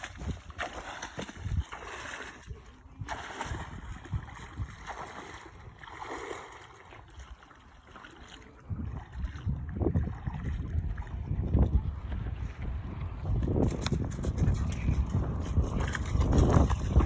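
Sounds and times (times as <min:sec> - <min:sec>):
wind gusts on microphone: 0:00.0 - 0:06.0, 0:08.6 - 0:17.0
water lapping and splashing: 0:00.0 - 0:17.0.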